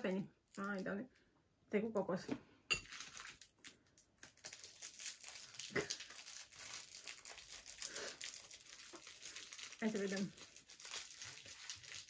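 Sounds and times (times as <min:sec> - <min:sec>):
foil wrappers crinkling: 0:00.5 - 0:01.0, 0:02.8 - 0:12.0.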